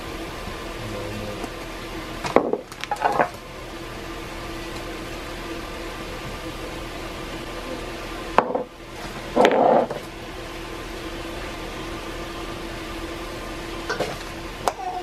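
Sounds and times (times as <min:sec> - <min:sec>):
kitchen appliance hum: 0:00.0 - 0:15.0.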